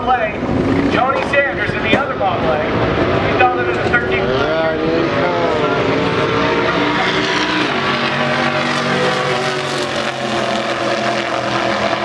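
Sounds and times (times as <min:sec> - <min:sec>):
drag car engines accelerating: 0:00.0 - 0:12.0.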